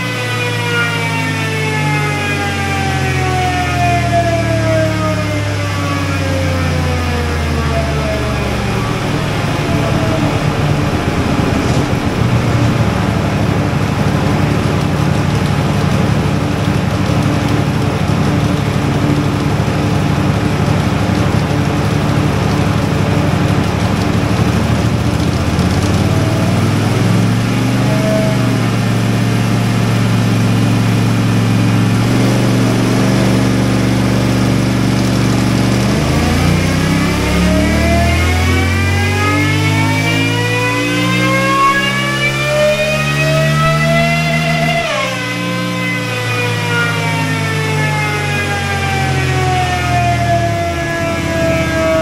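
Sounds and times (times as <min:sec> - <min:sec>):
motorcycle engine running under load: 0:00.0 - 0:52.0.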